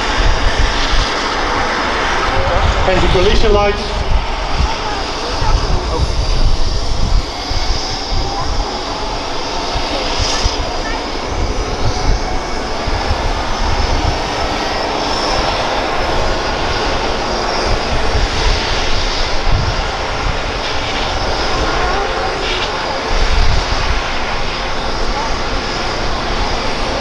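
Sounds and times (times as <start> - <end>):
deep rumble: 0.0 - 27.0
helicopter rotor noise: 0.0 - 27.0
helicopter turbine whine: 0.0 - 27.0.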